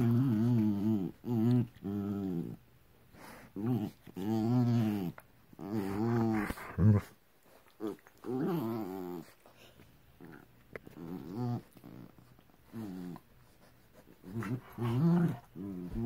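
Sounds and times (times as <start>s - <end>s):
dogs growling in play: 0.0s - 2.6s, 3.2s - 13.3s, 14.0s - 16.0s.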